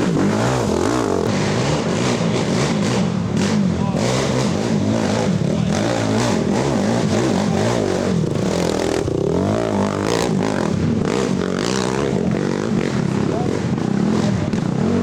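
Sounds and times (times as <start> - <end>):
atv engines revving: 0.0 - 15.0.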